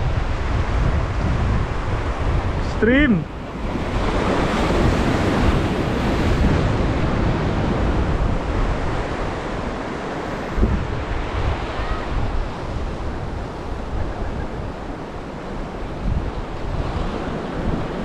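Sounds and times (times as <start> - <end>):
rushing water and surf: 0.0 - 18.0
wind buffeting microphone: 0.0 - 18.0.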